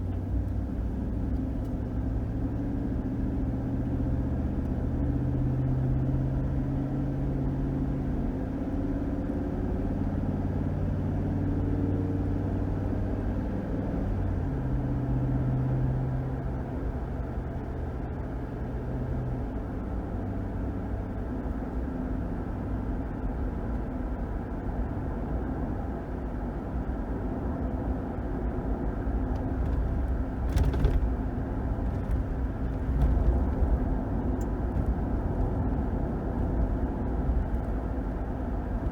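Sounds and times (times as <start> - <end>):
road rumble: 0.0 - 38.9.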